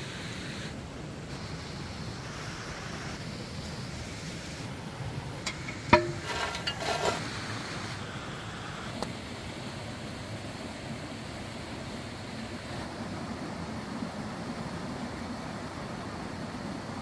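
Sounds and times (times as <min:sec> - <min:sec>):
low rushing background noise: 0:00.0 - 0:17.0.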